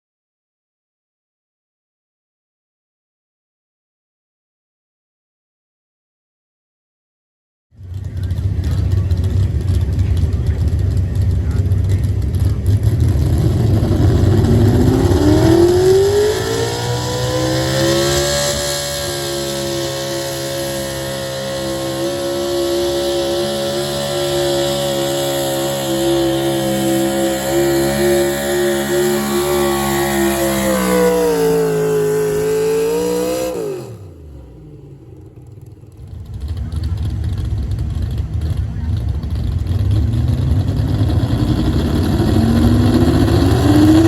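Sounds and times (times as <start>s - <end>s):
truck engine at full throttle: 7.8s - 44.0s.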